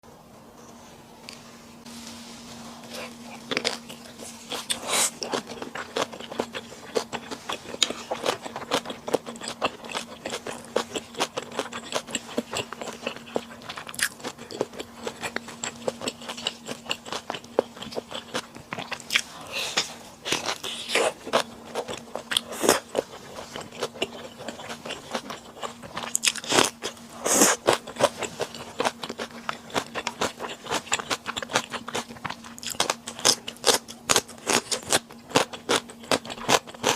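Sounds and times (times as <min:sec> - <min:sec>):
faint steady hum: 0:00.0 - 0:36.9
person chewing and crunching food: 0:02.6 - 0:36.9.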